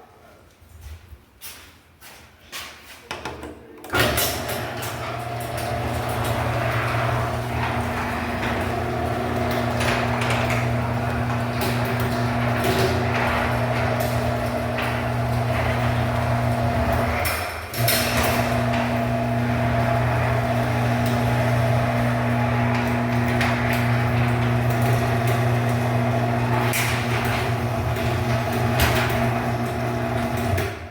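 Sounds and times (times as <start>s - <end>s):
garage door opener motor hum: 3.8s - 30.9s
door rattling: 4.0s - 30.8s.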